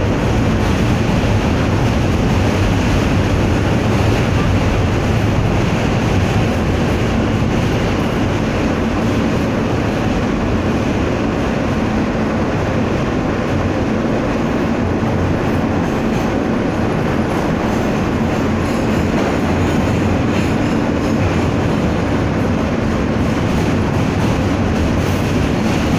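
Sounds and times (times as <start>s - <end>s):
subway train wheels on track: 0.0s - 25.9s.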